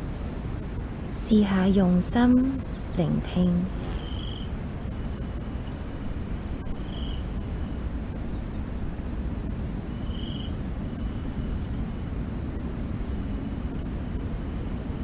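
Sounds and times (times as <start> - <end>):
chorus of insects: 0.0 - 15.0
low background rumble: 0.0 - 15.0.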